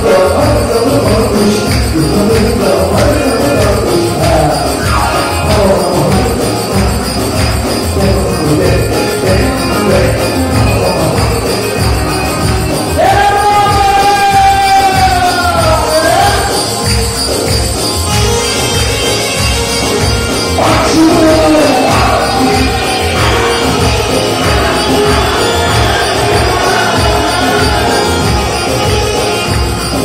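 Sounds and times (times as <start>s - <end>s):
man singing into microphone: 0.0s - 16.7s, 20.6s - 30.0s
music with steady drum beat: 0.0s - 30.0s.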